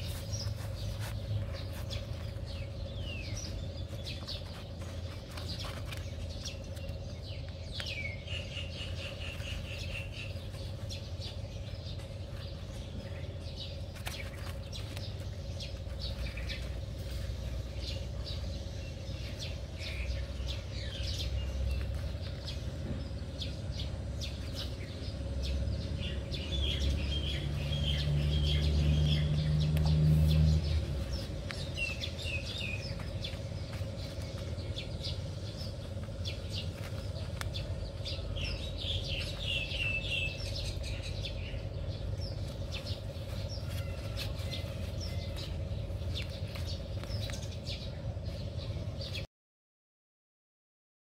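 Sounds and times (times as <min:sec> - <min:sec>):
low steady hum: 0:00.0 - 0:49.3
small birds chirping: 0:00.0 - 0:49.3.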